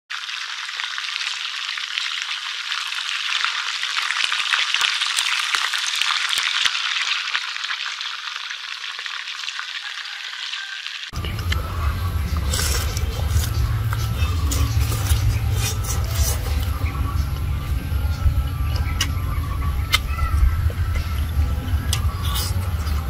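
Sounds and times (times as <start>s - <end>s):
fish sizzling in hot oil: 0.1s - 23.0s.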